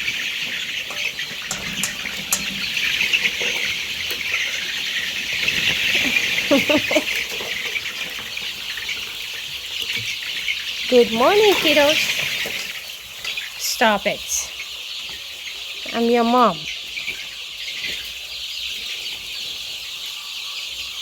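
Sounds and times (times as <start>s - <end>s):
chicks peeping and chirping: 0.0s - 21.0s.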